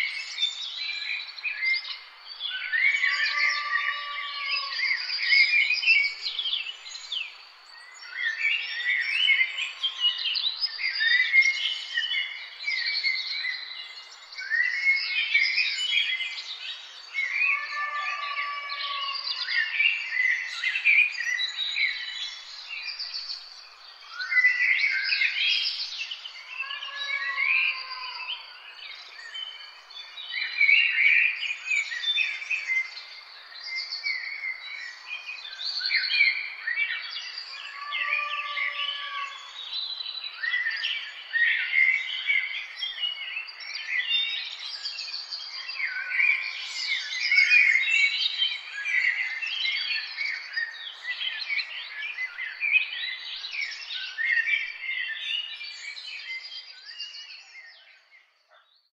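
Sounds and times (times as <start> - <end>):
songbirds singing and calling: 0.0 - 58.9.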